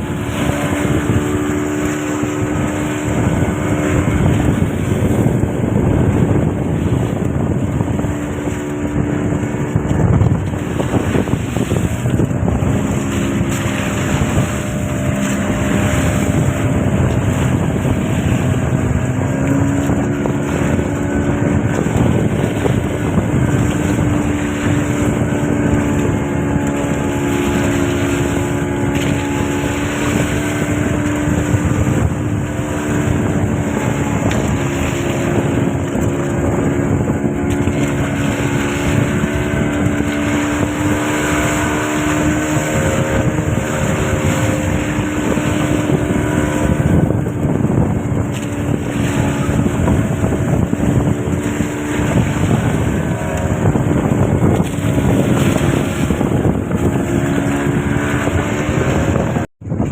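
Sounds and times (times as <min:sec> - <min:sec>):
boat engine running: 0:00.0 - 0:59.9
wind noise on microphone: 0:00.0 - 0:59.9.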